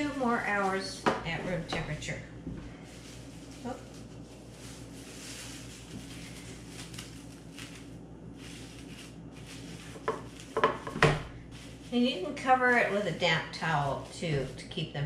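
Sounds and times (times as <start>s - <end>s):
cling wrap rustling and crinkling: 0.0s - 1.0s, 2.7s - 15.0s.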